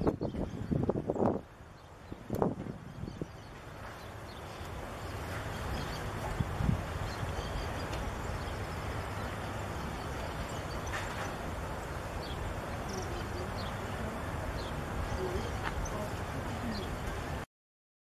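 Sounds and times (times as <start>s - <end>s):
outdoor background rumble: 0.0s - 17.4s.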